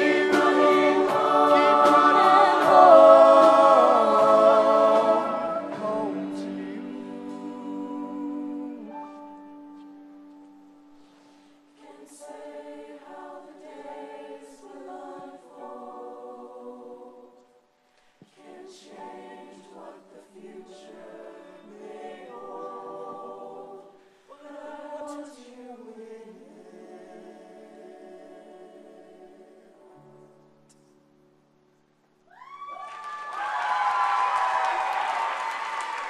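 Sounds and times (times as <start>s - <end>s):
choir singing softly in harmony: 0.0s - 31.6s.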